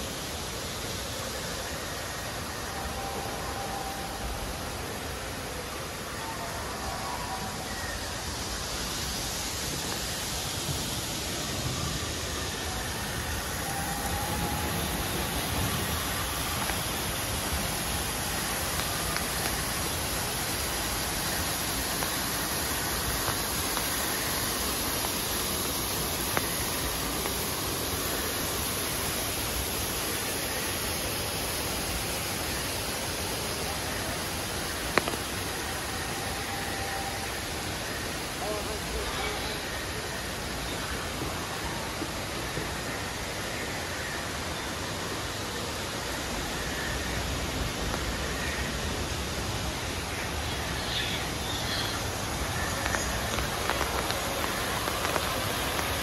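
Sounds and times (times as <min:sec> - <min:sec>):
light drizzle: 0:00.0 - 0:56.0
waterfall spilling over rocks: 0:00.0 - 0:56.0.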